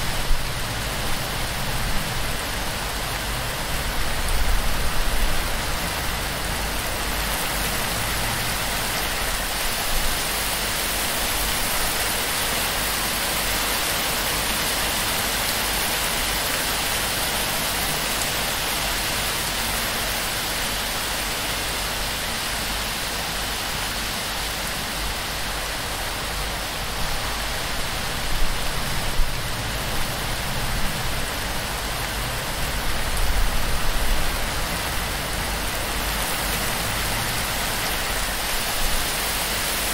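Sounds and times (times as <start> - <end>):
heavy rain on a thatch roof: 0.0 - 39.9.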